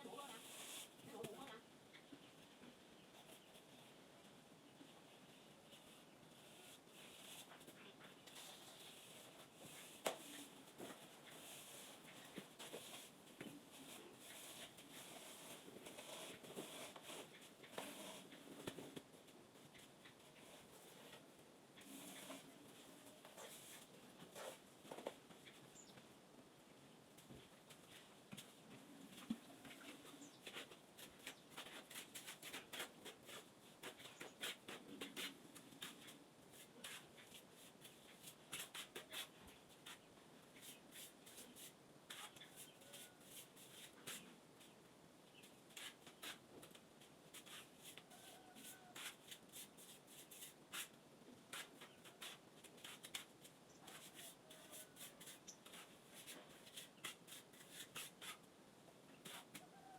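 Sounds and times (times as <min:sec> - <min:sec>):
irregular clicking and scratching: 0:05.7 - 0:26.1, 0:27.2 - 0:58.5, 0:59.1 - 0:59.9.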